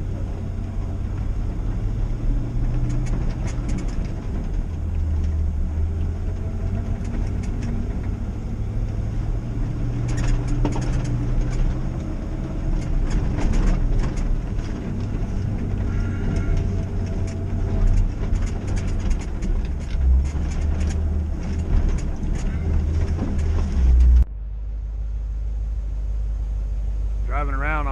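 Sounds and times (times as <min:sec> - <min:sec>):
truck engine and road rumble: 0:00.0 - 0:27.9
light rattles and ticks: 0:00.1 - 0:08.4, 0:09.7 - 0:24.3.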